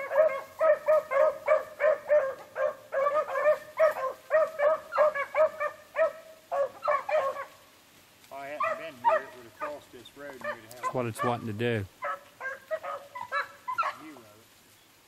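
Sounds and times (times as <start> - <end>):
hounds baying: 0.0 - 7.6, 8.4 - 14.3.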